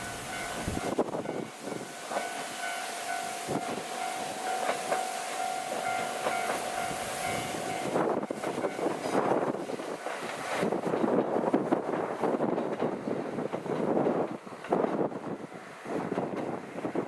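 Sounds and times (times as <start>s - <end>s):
wind buffeting microphone: 0.0s - 2.4s, 3.4s - 5.0s, 5.6s - 17.0s
diesel railcar whine: 0.0s - 17.0s.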